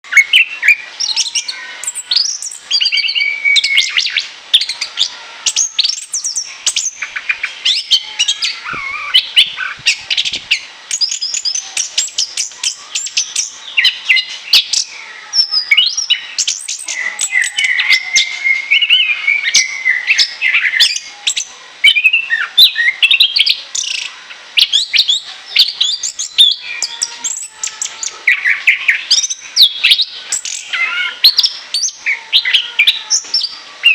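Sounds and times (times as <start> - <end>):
thrush singing: 0.0 - 33.9.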